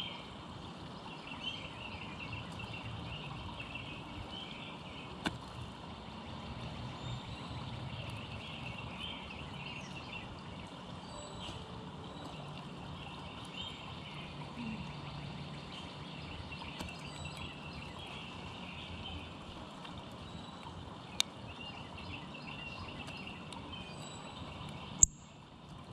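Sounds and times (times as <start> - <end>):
low rumble and hiss: 0.0 - 25.9.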